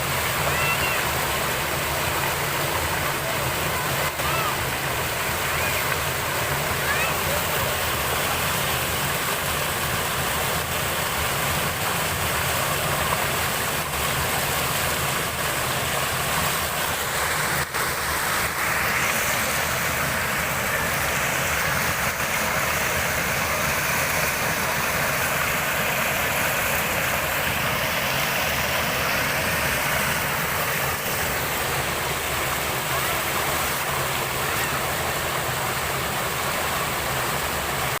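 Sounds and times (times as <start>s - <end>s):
waterfall rushing water: 0.0s - 38.0s.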